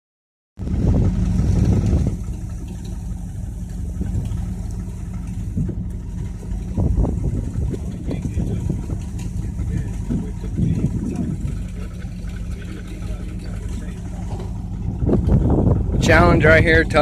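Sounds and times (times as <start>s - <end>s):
vehicle engine running: 0.6s - 17.0s.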